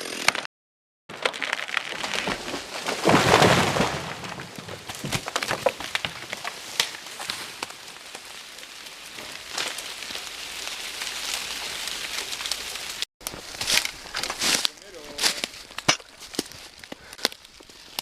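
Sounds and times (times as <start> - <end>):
tree crashing down: 1.1 - 17.3
branches cracking and snapping: 1.1 - 18.0
falling twigs pattering: 1.1 - 18.0.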